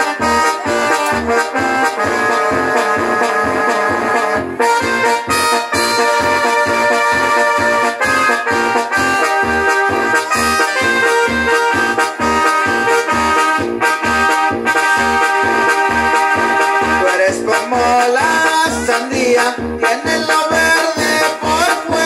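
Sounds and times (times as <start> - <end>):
accordion: 0.0 - 22.0
brass: 0.0 - 22.0
steady bass beat: 0.0 - 22.0.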